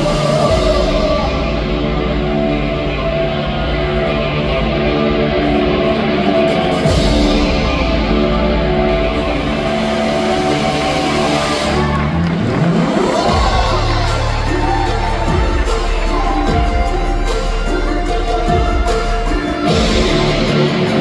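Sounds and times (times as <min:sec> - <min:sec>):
show music with held notes: 0:00.0 - 0:21.0.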